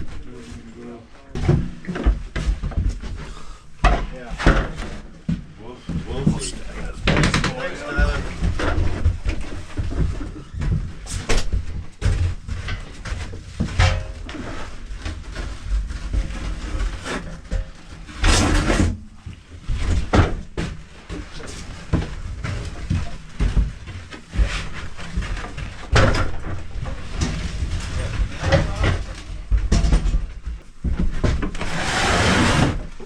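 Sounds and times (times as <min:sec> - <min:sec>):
equipment knocks and thumps: 0:01.3 - 0:19.0, 0:19.6 - 0:31.7.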